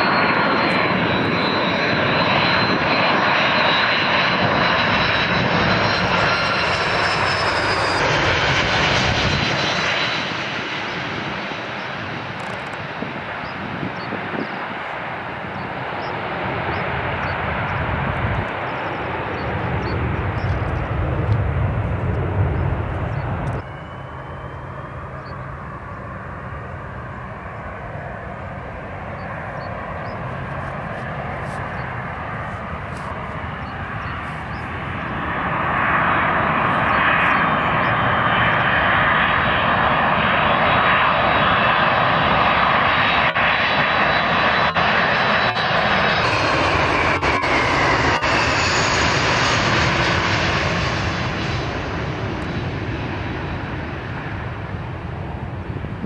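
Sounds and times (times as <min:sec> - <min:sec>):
jet engine whine: 0:00.0 - 0:56.0
jet engines roaring: 0:00.0 - 0:56.0.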